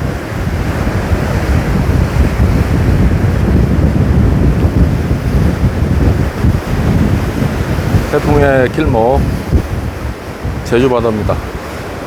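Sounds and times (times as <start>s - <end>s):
rough sea surf breaking: 0.0s - 12.0s
wind buffeting microphone: 0.0s - 12.0s.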